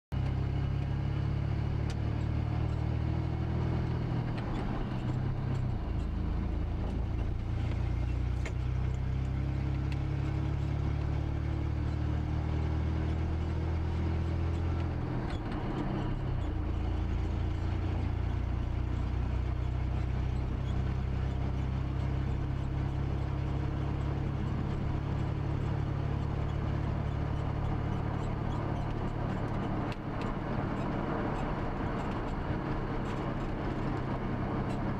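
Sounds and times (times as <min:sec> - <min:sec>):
road noise: 0:00.1 - 0:34.9
car engine drone: 0:00.2 - 0:34.9.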